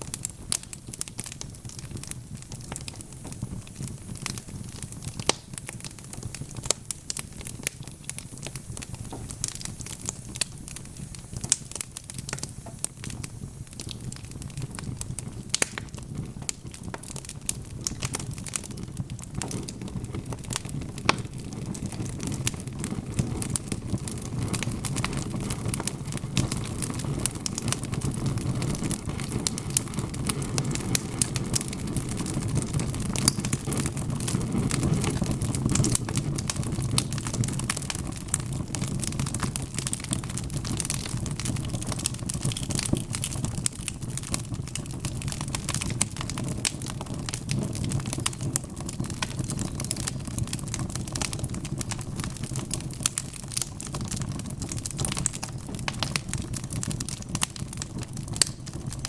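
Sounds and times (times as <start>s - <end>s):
low rumble of flame: 0.0s - 59.0s
wood fire crackling: 0.0s - 59.0s.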